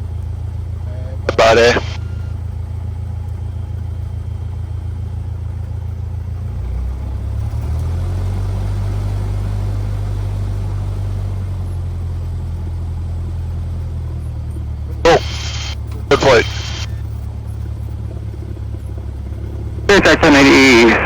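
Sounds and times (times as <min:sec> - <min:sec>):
small plane engine droning: 0:00.0 - 0:21.0.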